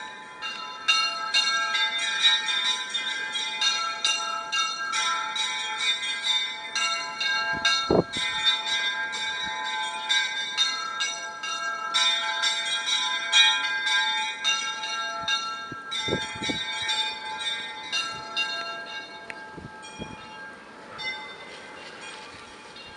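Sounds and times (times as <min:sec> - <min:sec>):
church bells pealing: 0:00.0 - 0:22.9.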